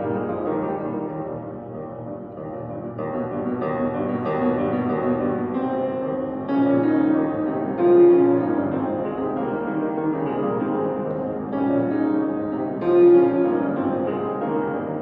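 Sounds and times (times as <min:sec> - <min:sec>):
solo piano classical music: 0:00.0 - 0:15.0.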